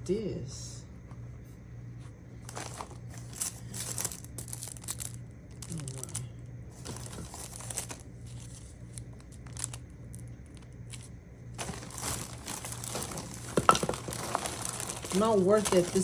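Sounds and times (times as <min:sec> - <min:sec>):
packaging crinkling and rustling: 0:02.4 - 0:16.0
packaging tearing: 0:02.5 - 0:06.2, 0:06.8 - 0:16.0.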